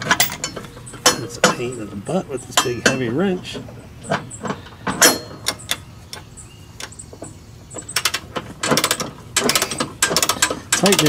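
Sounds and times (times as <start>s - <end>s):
metal clicks and knocks: 0.0s - 11.0s.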